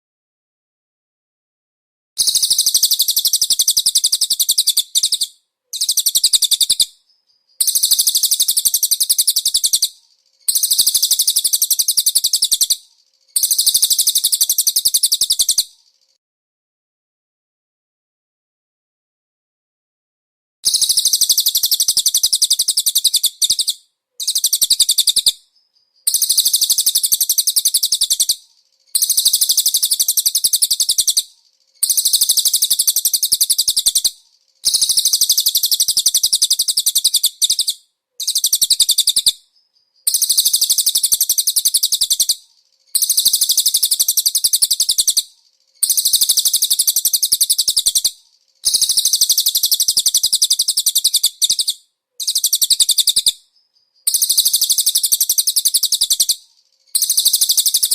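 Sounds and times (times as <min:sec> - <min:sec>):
songbird singing trilled phrases: 0:02.2 - 0:16.2, 0:20.7 - 0:57.9.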